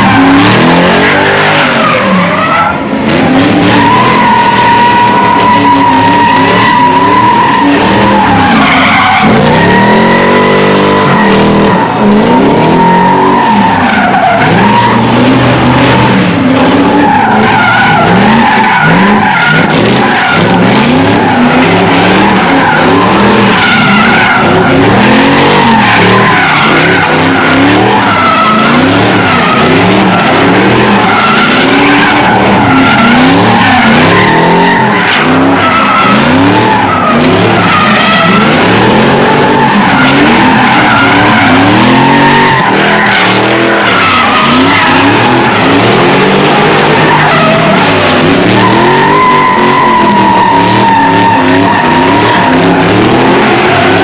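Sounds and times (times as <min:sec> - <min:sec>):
car engines revving: 0:00.0 - 0:54.0
tires squealing: 0:00.0 - 0:54.0.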